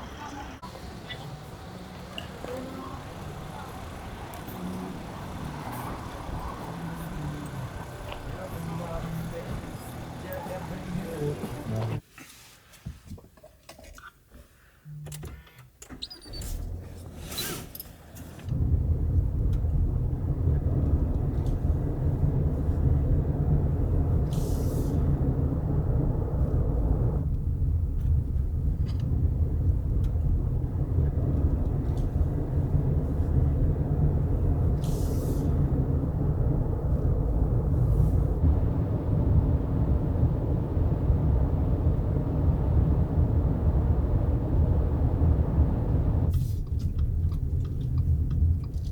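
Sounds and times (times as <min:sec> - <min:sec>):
car engine starting and running: 0:00.6 - 0:12.0, 0:16.4 - 0:17.3, 0:18.0 - 0:48.9.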